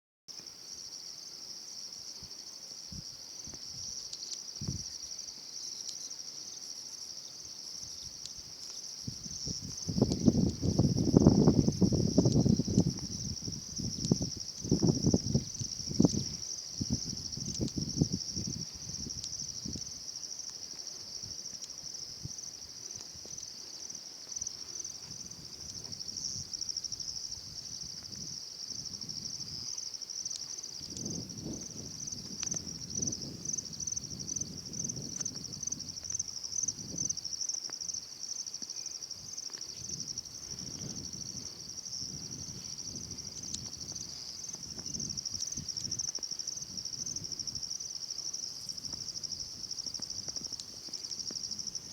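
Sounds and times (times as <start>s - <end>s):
high-pitched insect chorus: 0.4s - 51.9s.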